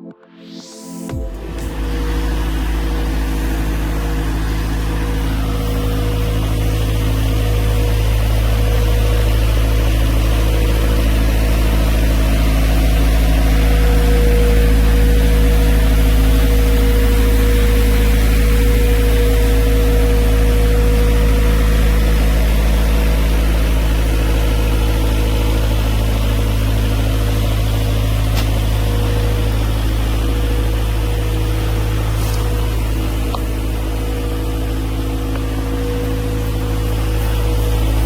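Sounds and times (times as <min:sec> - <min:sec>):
machine motor humming and whining: 0:01.1 - 0:38.0.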